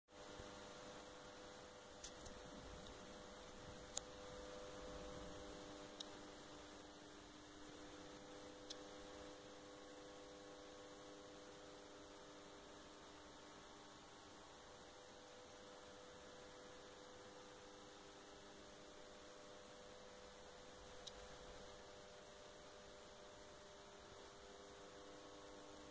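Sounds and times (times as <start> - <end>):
faint steady hum: 0.1 - 25.9.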